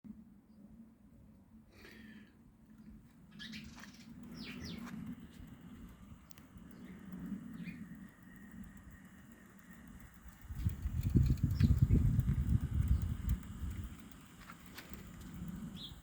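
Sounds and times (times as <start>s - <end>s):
model train low hum: 0.1s - 16.0s.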